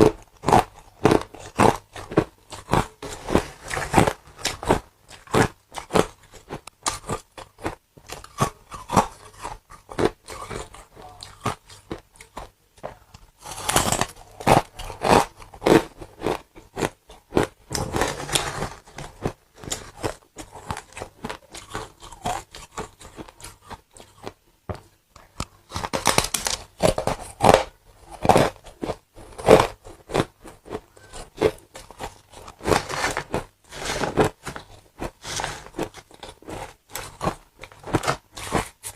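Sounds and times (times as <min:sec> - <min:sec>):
ice crunching while chewing: 0:00.0 - 0:38.9.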